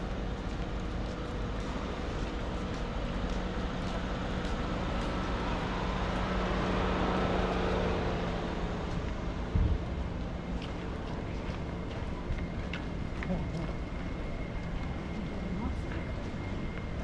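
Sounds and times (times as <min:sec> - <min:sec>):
city street noise: 0:00.0 - 0:17.0
constant low hum: 0:00.0 - 0:17.0.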